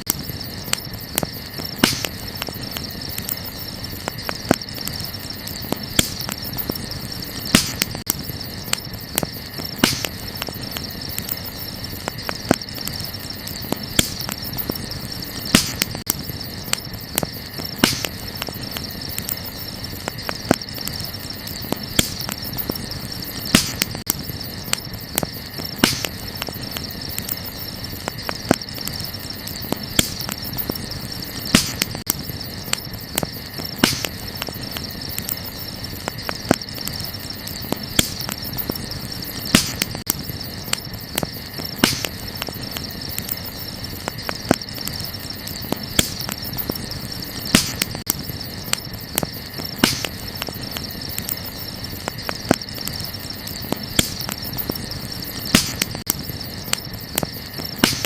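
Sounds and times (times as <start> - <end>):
campfire crackling and popping: 0.0 - 58.0
crickets chirring: 0.0 - 58.0.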